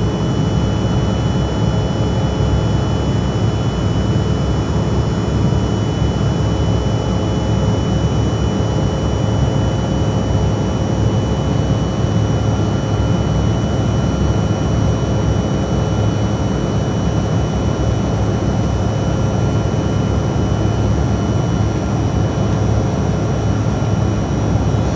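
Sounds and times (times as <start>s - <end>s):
jet engine cabin hum: 0.0s - 24.9s.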